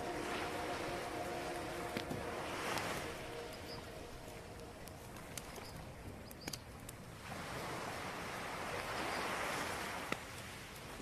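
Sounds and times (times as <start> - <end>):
ocean surf: 0.0 - 11.0.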